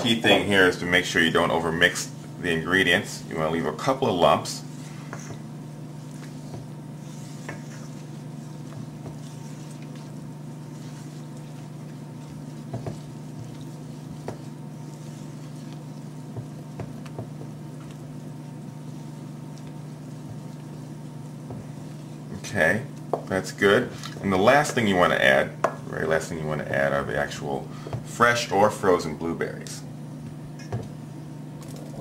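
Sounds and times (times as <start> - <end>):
batter stirred in a bowl: 0.0 - 29.8
steady low hum: 0.0 - 32.0.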